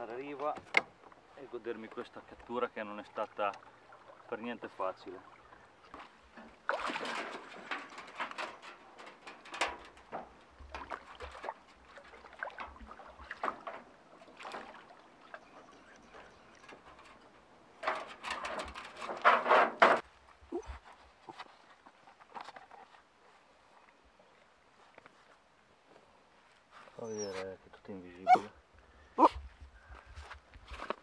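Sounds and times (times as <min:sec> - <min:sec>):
water splashing and sloshing: 0:00.0 - 0:26.7.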